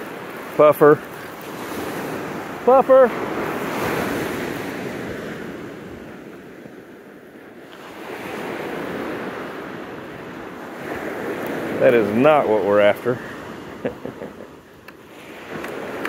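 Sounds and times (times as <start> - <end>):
surf breaking on beach: 0.0 - 6.9, 7.5 - 16.0.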